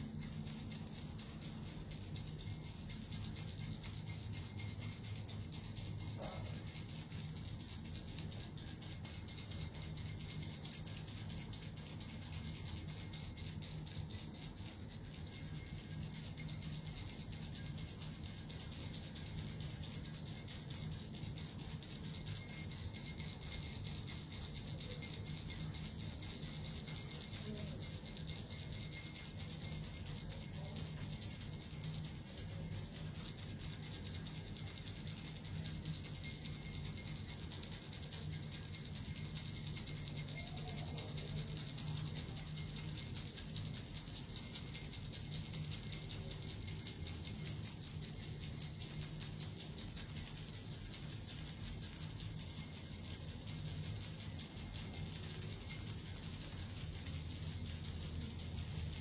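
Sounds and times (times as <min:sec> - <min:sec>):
small jingle bells shaken: 0:00.0 - 0:59.0.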